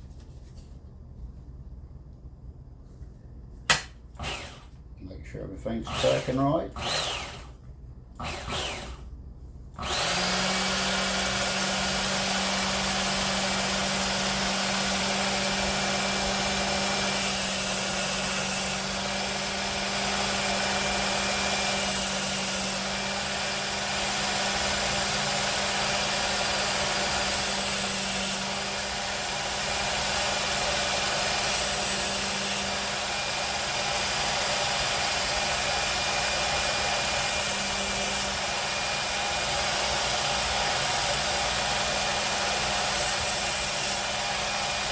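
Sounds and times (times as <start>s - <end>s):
electric belt sharpener humming: 3.8s - 4.8s, 5.8s - 7.6s, 8.2s - 9.0s, 9.8s - 44.9s.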